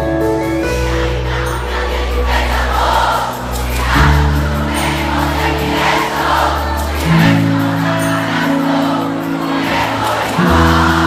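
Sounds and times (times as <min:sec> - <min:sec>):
live band playing: 0:00.0 - 0:11.0
crowd singing along: 0:00.2 - 0:11.0.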